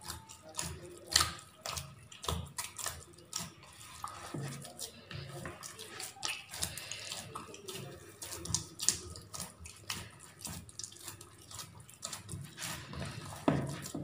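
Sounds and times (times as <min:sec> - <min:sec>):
hands kneading wet dough: 0:00.0 - 0:14.0.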